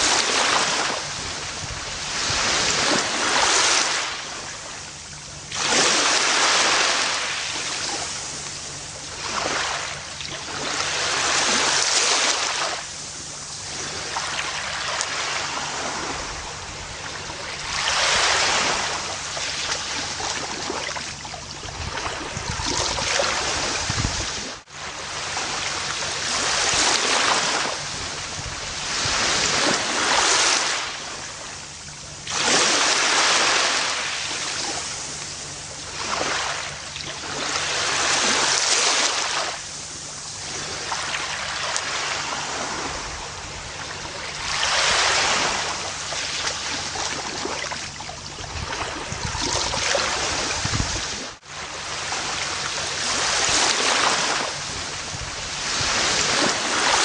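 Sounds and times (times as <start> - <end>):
ocean waves washing on beach: 0.0 - 57.0.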